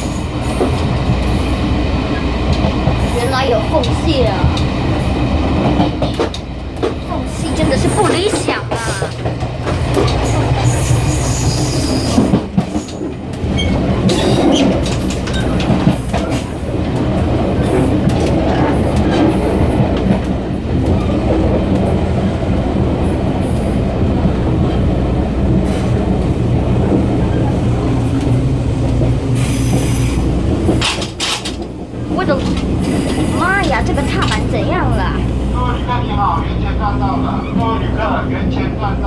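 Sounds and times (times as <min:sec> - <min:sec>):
gangway connection clattering: 0:00.0 - 0:39.0
train wheels clacking over rails: 0:00.0 - 0:39.0.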